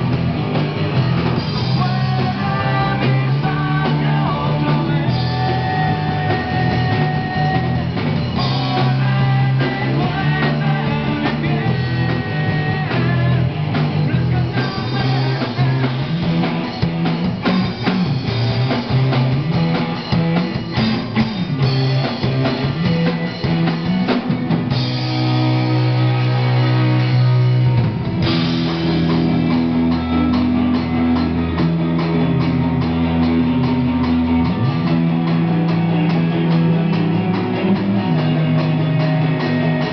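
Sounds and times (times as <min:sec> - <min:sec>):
distorted electric guitars: 0:00.0 - 0:39.9
drum kit: 0:00.0 - 0:39.9
electric bass: 0:00.0 - 0:39.9.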